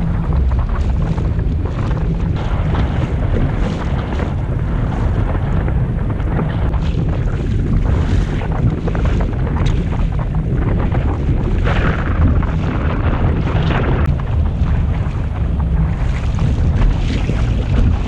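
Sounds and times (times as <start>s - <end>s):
water splashing against boat: 0.0s - 18.0s
wind buffeting microphone: 0.0s - 18.0s.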